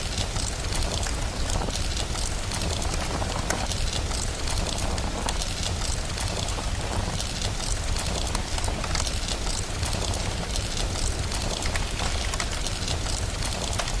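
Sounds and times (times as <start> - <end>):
fire crackling and popping: 0.0 - 14.0
steady hiss of rain: 0.0 - 14.0.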